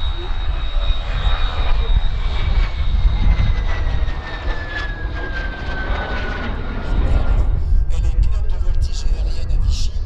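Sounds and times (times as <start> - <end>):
jet flypast rumble and whine: 0.0 - 10.0.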